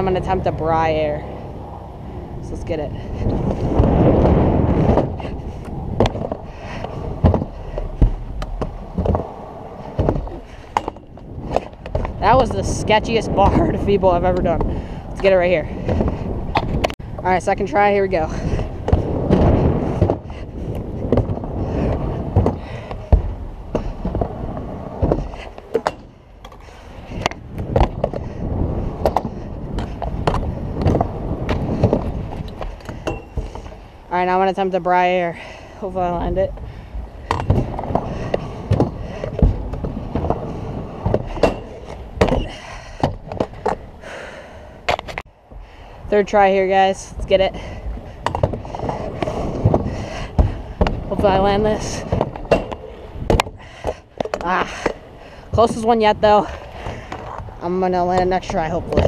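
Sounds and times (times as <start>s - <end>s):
scooter wheels rolling on concrete: 0.0s - 59.0s.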